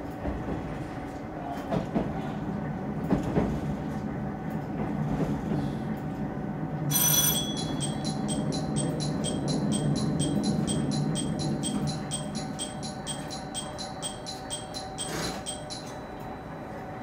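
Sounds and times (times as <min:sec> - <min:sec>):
diesel railcar rumble: 0:00.0 - 0:17.0.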